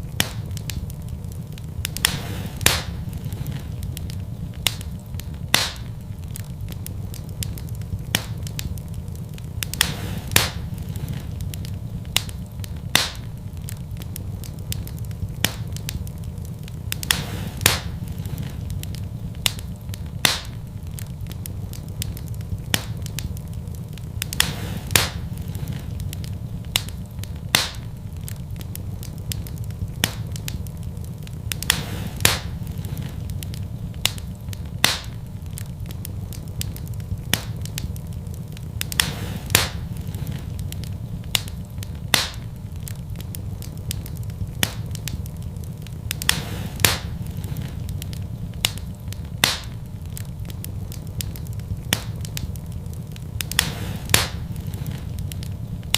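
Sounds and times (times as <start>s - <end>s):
fire crackling and popping: 0.0s - 55.9s.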